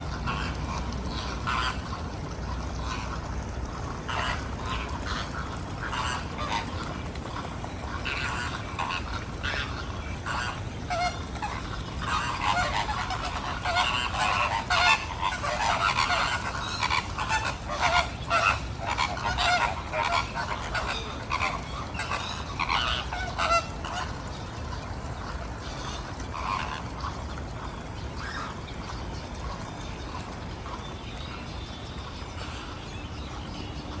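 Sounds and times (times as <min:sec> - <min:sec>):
flamingos honking: 0:00.0 - 0:30.8.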